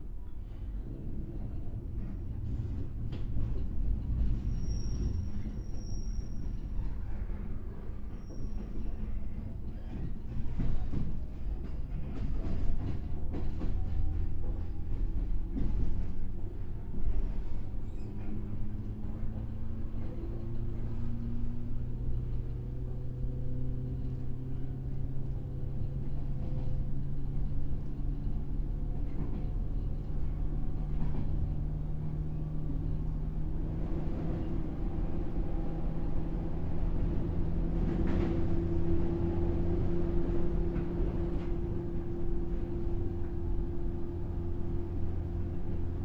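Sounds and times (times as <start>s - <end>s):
wheels rumbling on rail: 0.0s - 46.0s.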